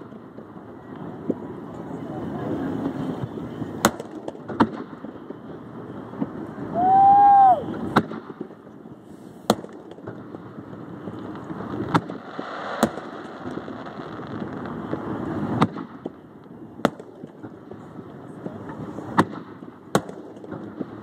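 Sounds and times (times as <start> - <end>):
fireworks bursting: 0.0 - 21.0
steady background noise: 0.0 - 21.0.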